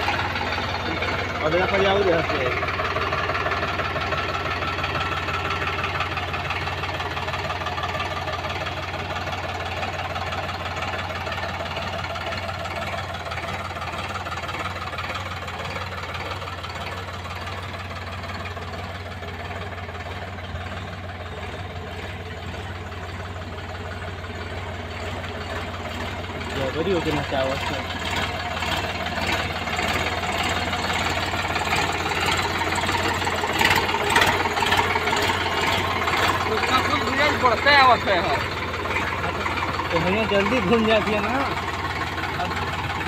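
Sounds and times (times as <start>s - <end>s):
tractor diesel engine under load: 0.0s - 43.0s.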